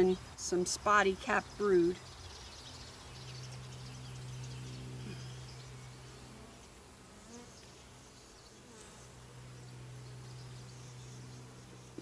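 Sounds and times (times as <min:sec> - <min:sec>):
bees buzzing: 0:02.2 - 0:12.0.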